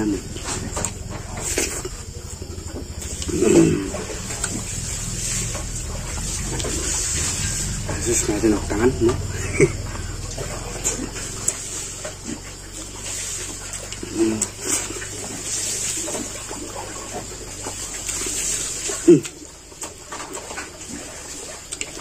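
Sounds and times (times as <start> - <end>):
wet chewing and mouth noises: 0.2 - 8.0, 9.0 - 22.0.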